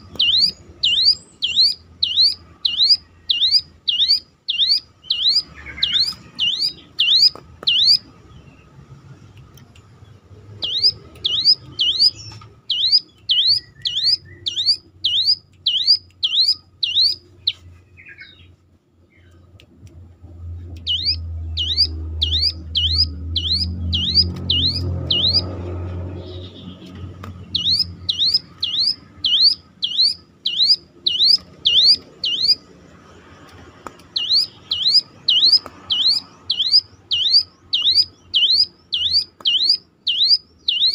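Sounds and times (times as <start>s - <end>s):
bird calling siren-like notes: 0.0s - 8.1s, 10.5s - 18.4s, 20.8s - 26.7s, 27.5s - 32.7s, 34.1s - 40.9s.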